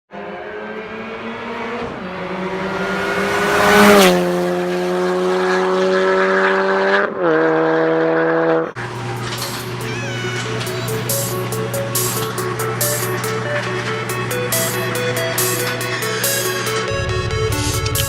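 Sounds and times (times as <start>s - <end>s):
car engine at high revs: 0.1s - 9.8s, 10.7s - 18.0s.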